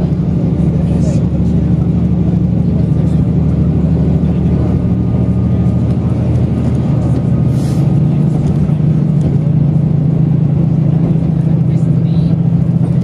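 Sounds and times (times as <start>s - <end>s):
low engine drone: 0.0s - 13.0s
train wheels rumbling on track: 0.0s - 13.0s.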